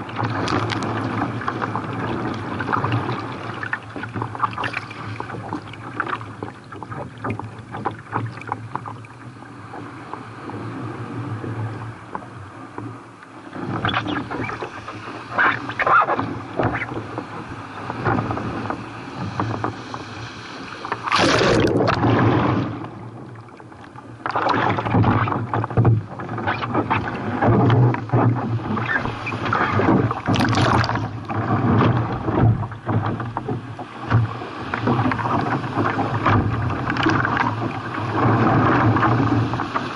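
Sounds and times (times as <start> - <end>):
sea water splashing and rushing: 0.0 - 39.9.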